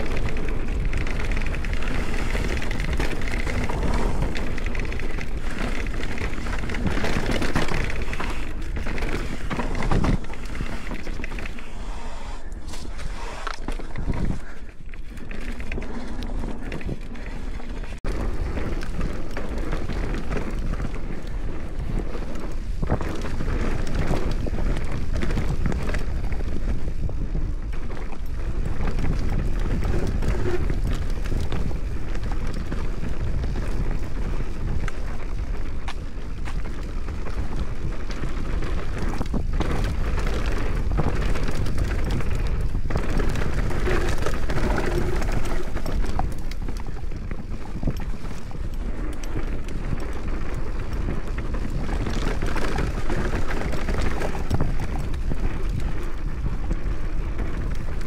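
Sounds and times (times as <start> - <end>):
bike knocking and rattling: 0.0 - 58.0
bike tyres rolling over dirt and rocks: 0.0 - 58.0
wind rumble on microphone: 0.0 - 58.0.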